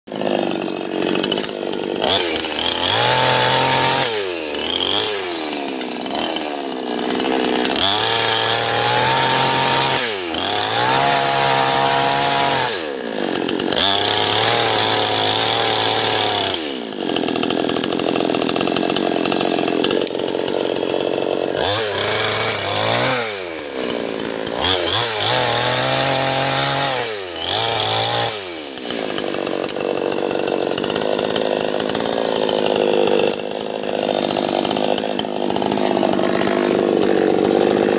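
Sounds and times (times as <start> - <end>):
chainsaw cutting wood: 0.1 - 37.9
chainsaw revving: 0.1 - 37.9.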